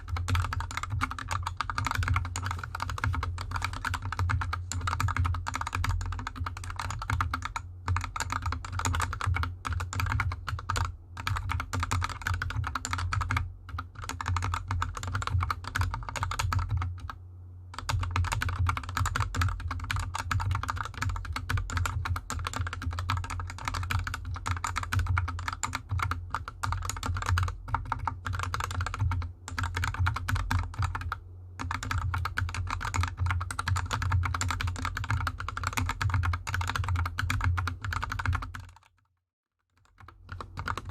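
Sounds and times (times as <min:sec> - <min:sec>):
steady low hum: 0:00.0 - 0:38.8
mechanical keyboard typing: 0:00.0 - 0:40.9.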